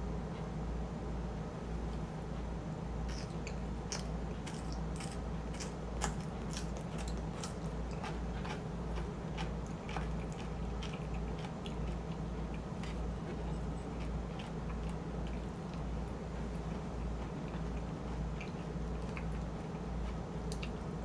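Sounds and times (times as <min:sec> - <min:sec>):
low steady hum: 0:00.0 - 0:21.0
wet chewing and crunching: 0:03.1 - 0:21.0.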